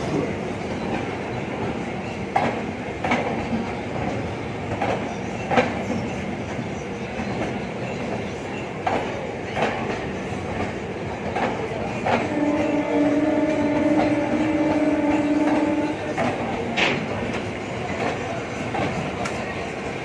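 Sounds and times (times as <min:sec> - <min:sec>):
train rumbling on track: 0:00.0 - 0:20.0.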